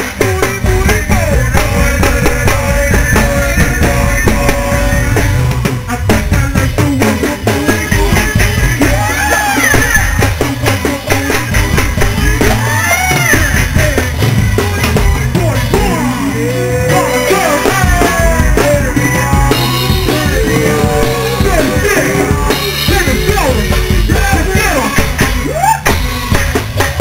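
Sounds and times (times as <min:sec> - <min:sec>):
drum and percussion groove: 0:00.0 - 0:27.0
person singing: 0:00.0 - 0:27.0.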